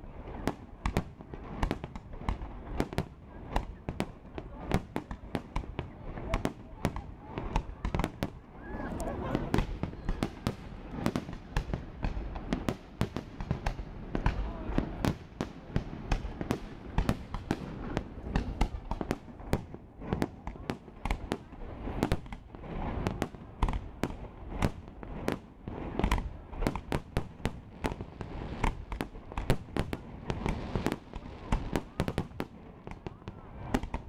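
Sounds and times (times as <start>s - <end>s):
fireworks bursting with sharp bangs: 0.0s - 34.0s.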